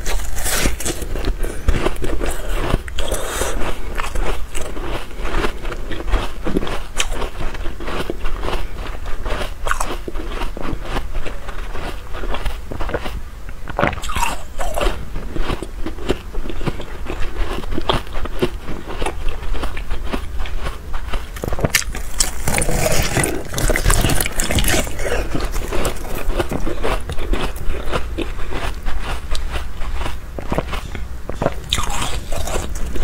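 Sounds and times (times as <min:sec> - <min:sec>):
ice being chewed: 0:00.0 - 0:33.0.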